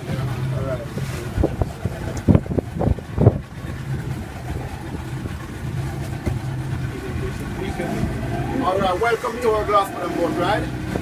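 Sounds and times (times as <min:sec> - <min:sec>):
dull low thumps: 0:00.0 - 0:09.0
boat engine humming: 0:00.0 - 0:11.0.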